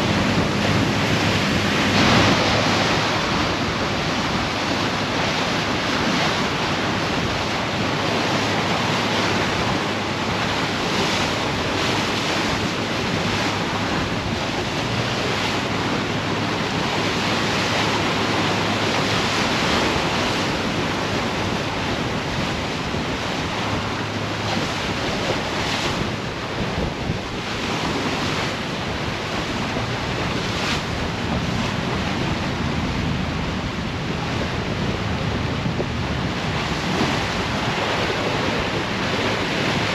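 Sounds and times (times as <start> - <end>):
sea water rushing along hull: 0.0 - 39.9
wind buffeting microphone: 0.0 - 39.9.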